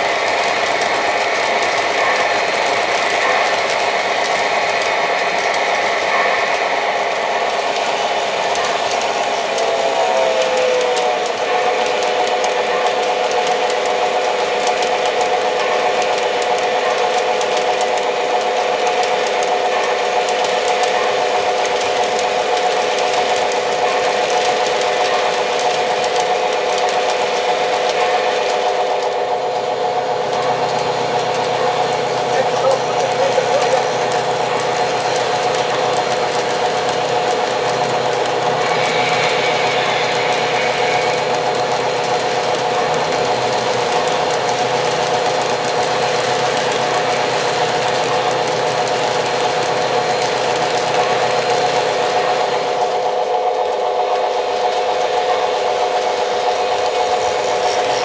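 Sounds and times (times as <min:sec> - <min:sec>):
model train wheels clattering: 0:00.0 - 0:58.0.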